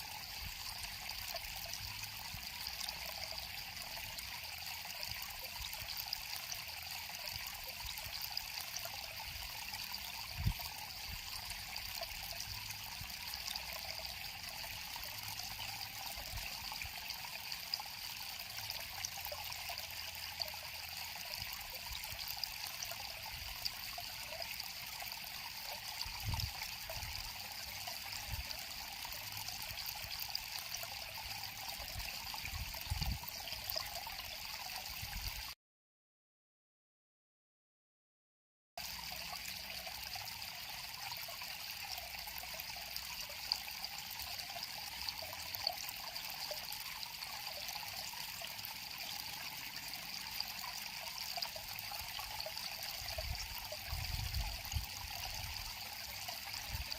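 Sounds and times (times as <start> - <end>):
river water trickling: 0.0 - 35.6, 38.8 - 56.9.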